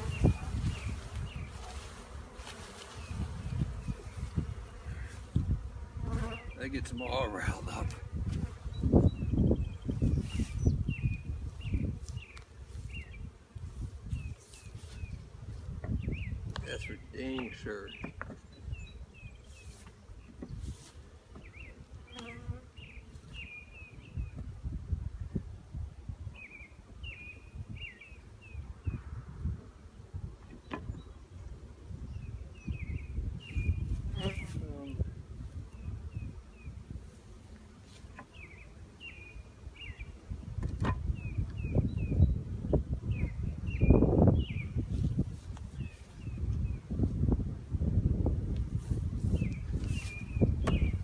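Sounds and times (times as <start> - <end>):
small birds chirping: 0.0 - 5.4, 6.0 - 24.5, 26.3 - 29.0, 32.0 - 36.9, 37.8 - 40.2, 41.1 - 46.9, 49.2 - 51.0
honeybees buzzing: 0.0 - 24.4, 29.7 - 47.9.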